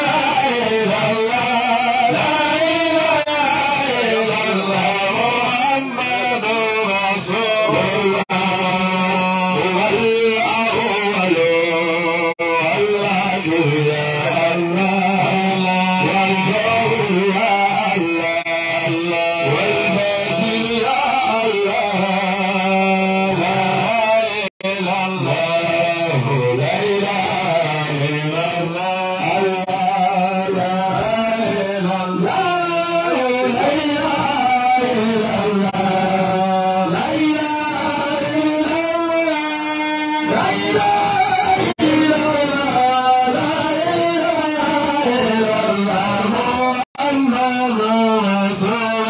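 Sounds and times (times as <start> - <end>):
men singing a devotional chant: 0.0 - 49.0.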